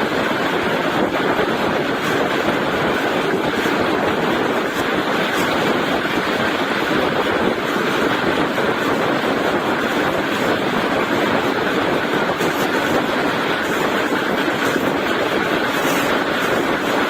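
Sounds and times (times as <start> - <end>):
train wheels rumbling on track: 0.0 - 17.0
wind rushing: 0.0 - 17.0.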